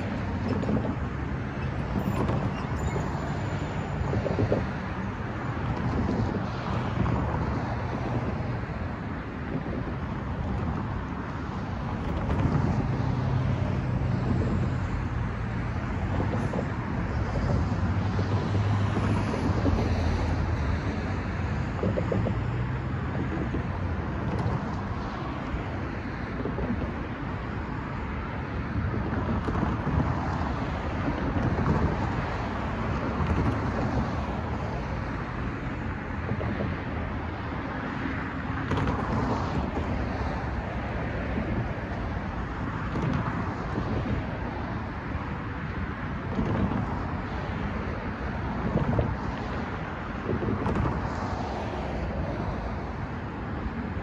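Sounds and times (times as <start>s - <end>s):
cars passing: 0.0s - 54.0s
wind rumbling on microphone: 0.0s - 54.0s.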